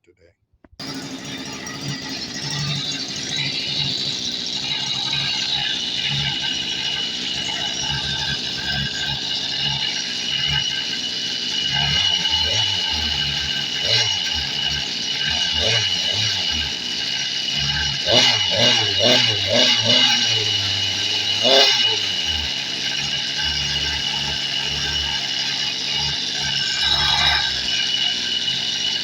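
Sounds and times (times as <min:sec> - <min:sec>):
small two-stroke engine buzzing: 0:00.8 - 0:29.0.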